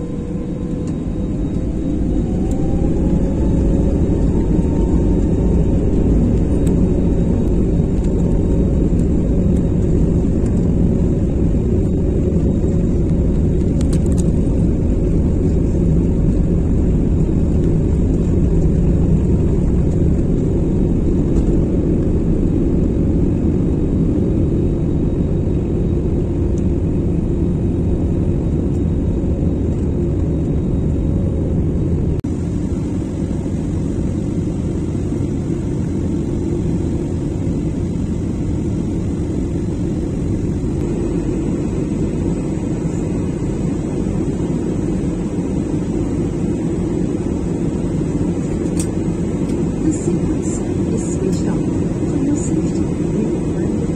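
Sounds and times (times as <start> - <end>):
jet airliner cabin rumble: 0.0 - 53.9.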